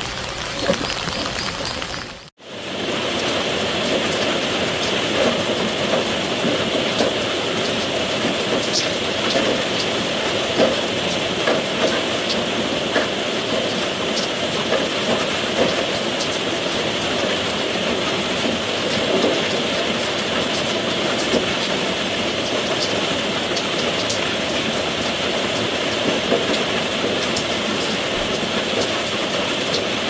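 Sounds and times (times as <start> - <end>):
raindrops ticking: 0.0 - 30.0
steady rain hiss: 0.0 - 30.0.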